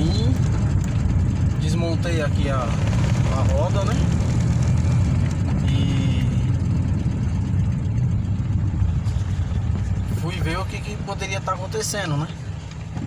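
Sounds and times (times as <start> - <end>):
car engine: 0.0 - 13.0
road noise: 0.0 - 13.0.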